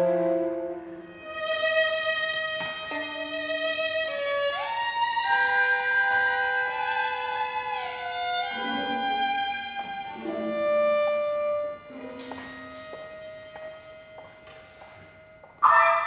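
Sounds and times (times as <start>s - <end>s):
violin long sliding notes: 0.0s - 15.8s
sustained instrument notes: 0.0s - 16.0s.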